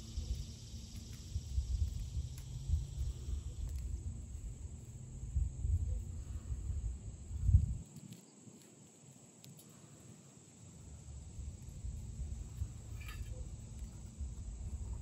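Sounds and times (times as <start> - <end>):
wind rumble on microphone: 0.0 - 8.2, 11.0 - 15.0.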